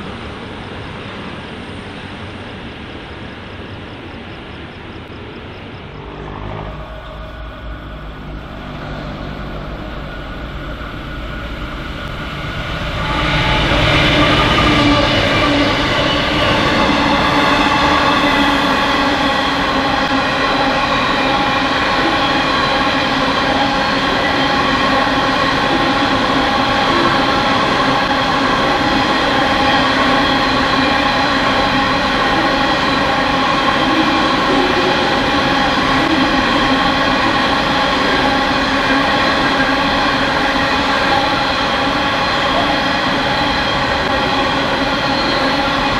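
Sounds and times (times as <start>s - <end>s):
diesel locomotives approaching: 0.0s - 45.9s
train wagons rolling past: 0.0s - 45.9s
train wheels whining: 0.0s - 45.9s.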